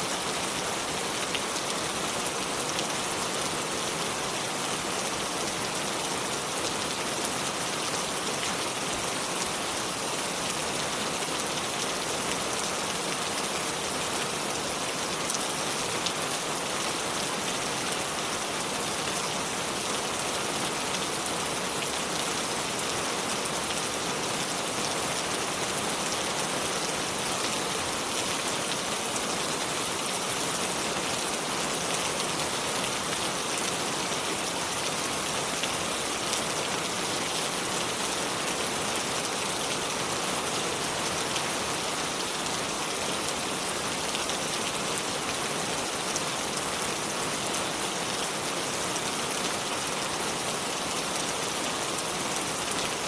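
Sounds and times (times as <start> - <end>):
river flowing over stones: 0.0 - 53.0.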